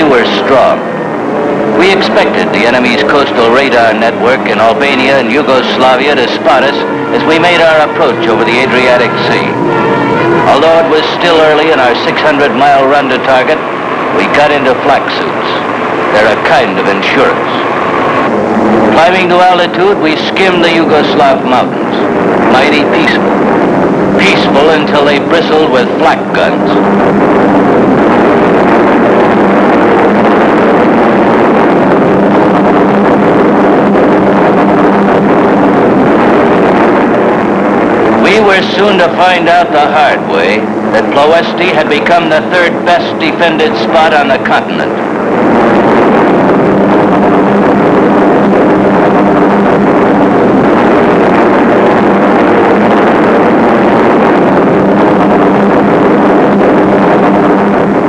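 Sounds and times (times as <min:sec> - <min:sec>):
propeller bombers droning: 0:00.0 - 0:58.0.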